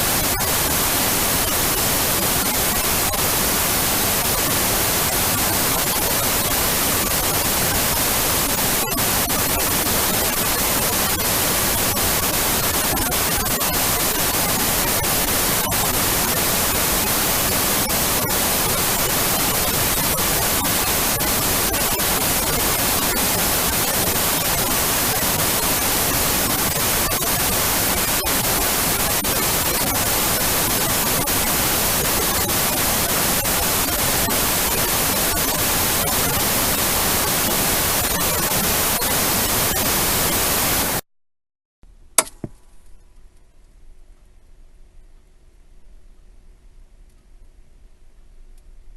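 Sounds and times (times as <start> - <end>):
television static hiss: 0.0 - 41.0.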